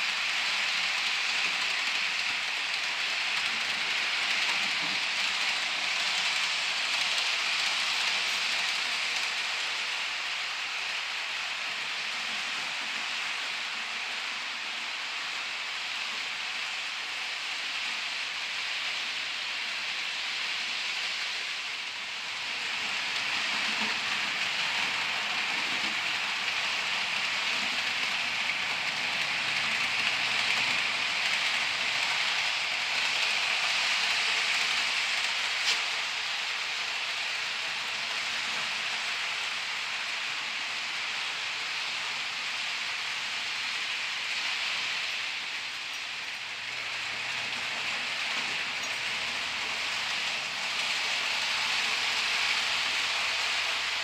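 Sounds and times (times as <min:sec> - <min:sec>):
model train wheels on rails: 0:00.0 - 0:54.0.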